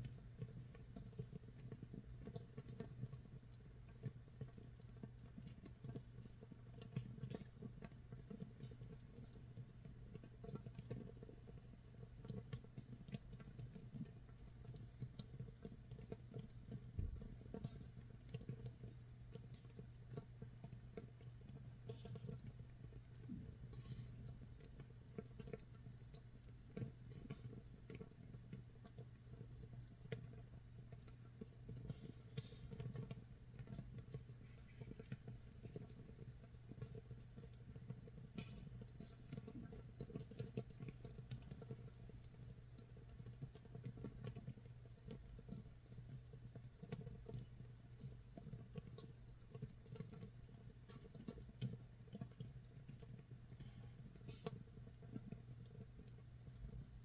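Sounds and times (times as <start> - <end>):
fermenting bubbles popping: 0.0 - 57.0.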